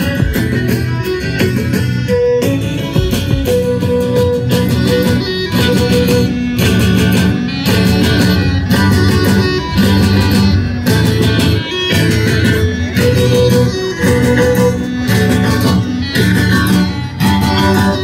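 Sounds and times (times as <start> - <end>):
drum kit beat: 0.0 - 18.0
fiddle: 0.0 - 18.0
guitar: 0.0 - 18.0.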